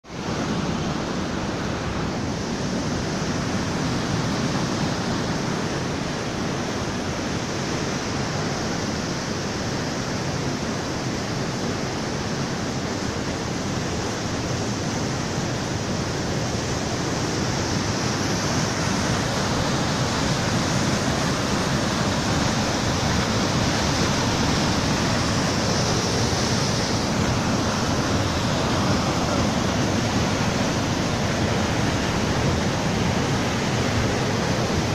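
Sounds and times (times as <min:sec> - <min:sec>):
river rapids rushing over boulders: 0:00.1 - 0:34.9.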